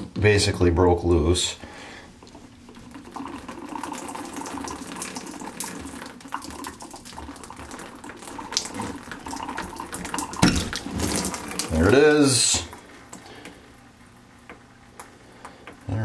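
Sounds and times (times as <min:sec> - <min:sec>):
water trickling from shower valve: 0:02.2 - 0:16.0.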